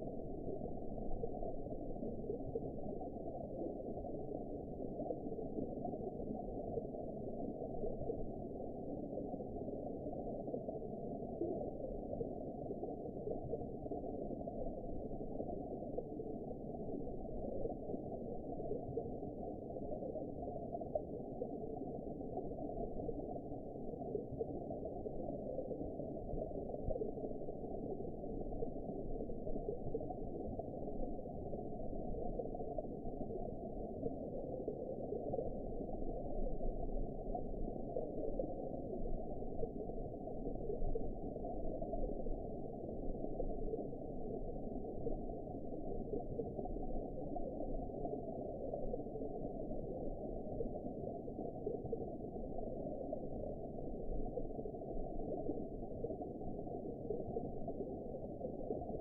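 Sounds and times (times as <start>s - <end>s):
muffled underwater rush: 0.0s - 59.0s.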